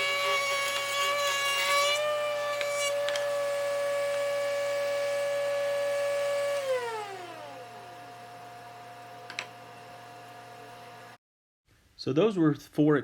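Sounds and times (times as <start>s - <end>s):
router whining and spinning down: 0.0s - 11.2s.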